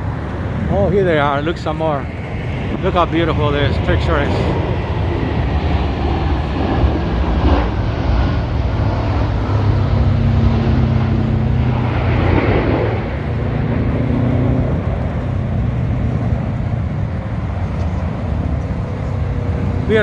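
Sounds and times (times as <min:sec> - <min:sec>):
jets flying over rumbling: 0:00.0 - 0:20.0.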